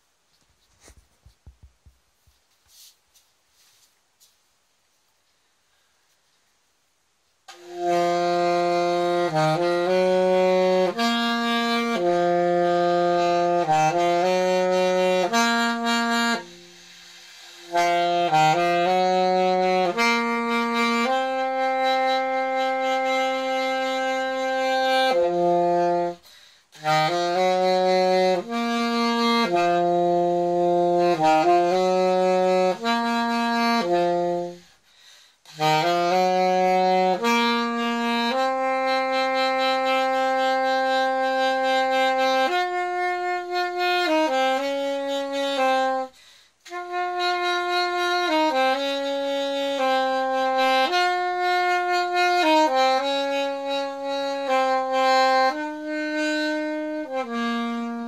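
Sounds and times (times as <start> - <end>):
solo alto saxophone melody: 7.5 - 58.0.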